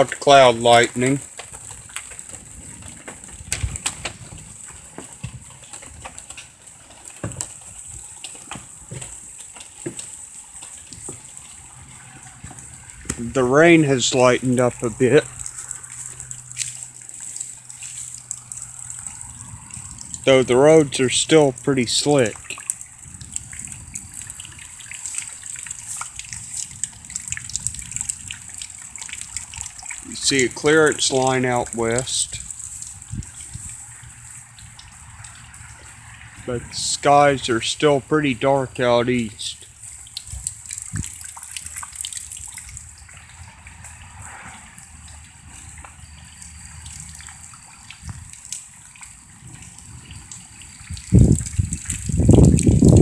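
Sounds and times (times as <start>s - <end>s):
light rain hissing: 0.0s - 53.0s
raindrops tapping: 0.0s - 53.0s.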